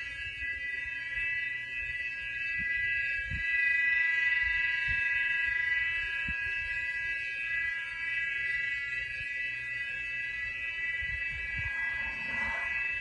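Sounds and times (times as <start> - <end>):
metallic high-pitched drone: 0.0 - 13.0.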